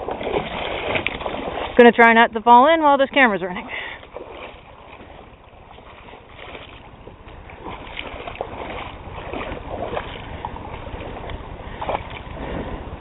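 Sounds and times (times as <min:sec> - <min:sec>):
water splashing from wading: 0:00.0 - 0:13.0.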